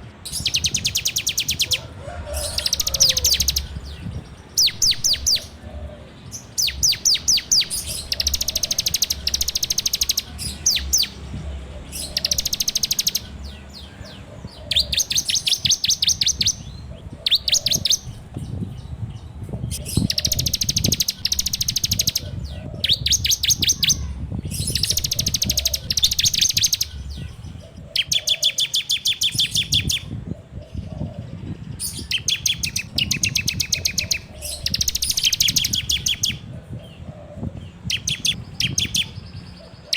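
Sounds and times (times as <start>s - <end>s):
bird singing rattling trills: 0.3s - 1.8s, 2.4s - 30.1s, 31.7s - 36.5s, 37.4s - 39.9s.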